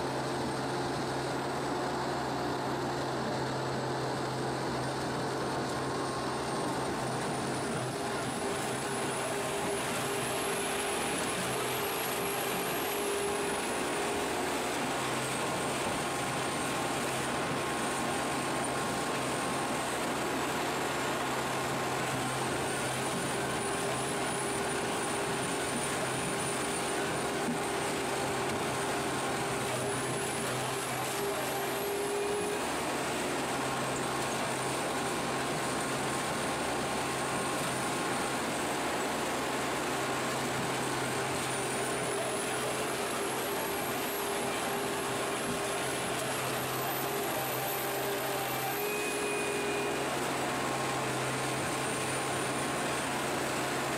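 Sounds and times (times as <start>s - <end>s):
stump shredder running: 2.2s - 36.2s, 36.8s - 53.9s.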